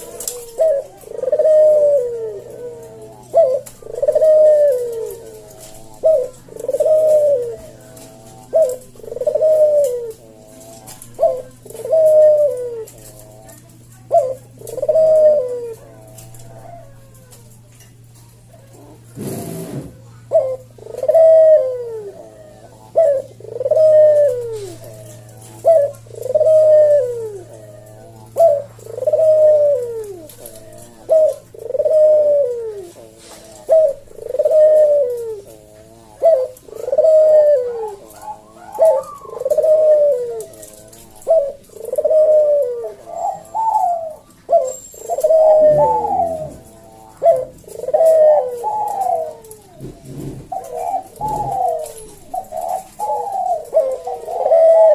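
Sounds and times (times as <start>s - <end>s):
dove cooing: 0.0s - 54.9s
faint low hum: 0.0s - 54.9s.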